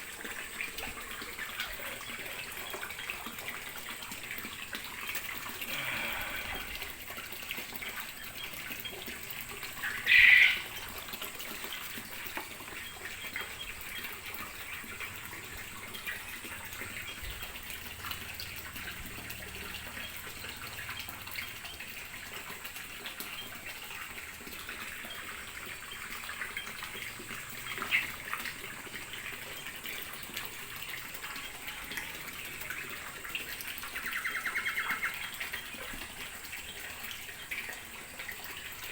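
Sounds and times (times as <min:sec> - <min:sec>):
water running: 0:00.0 - 0:38.9.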